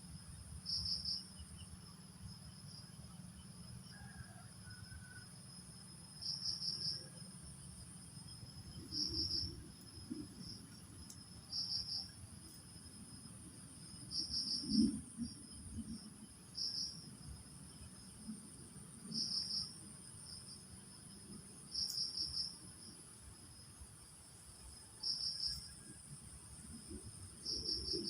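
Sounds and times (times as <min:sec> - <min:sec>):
insects buzzing: 0:00.0 - 0:28.0
insects chirping rapidly: 0:00.2 - 0:28.0.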